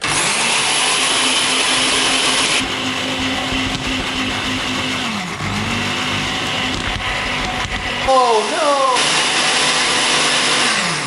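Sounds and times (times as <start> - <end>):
electric hand mixer beating eggs: 0.0 - 11.0.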